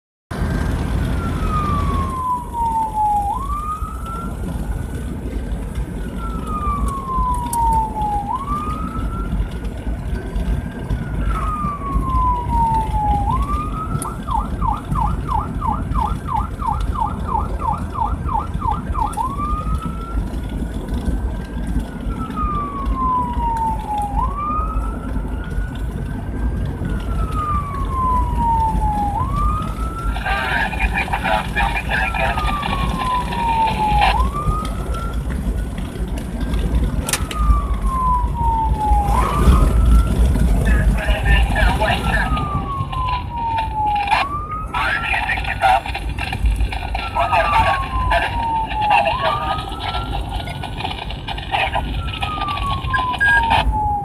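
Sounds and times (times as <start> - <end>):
engine and road rumble: 0.3 - 54.0
emergency siren wailing and yelping: 0.9 - 54.0.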